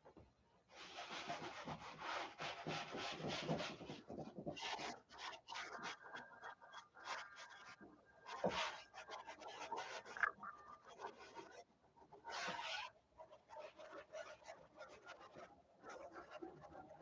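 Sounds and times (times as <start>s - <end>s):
brush scrubbing paint on canvas: 0.8s - 16.9s.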